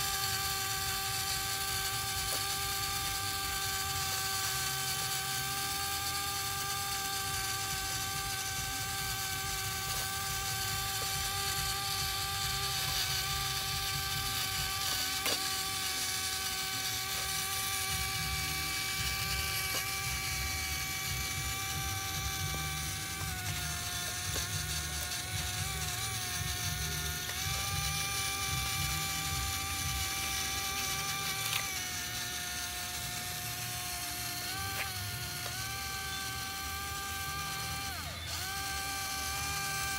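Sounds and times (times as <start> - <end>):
plastic gears rattling: 0.0 - 39.9
small electric motor whining: 0.0 - 39.9.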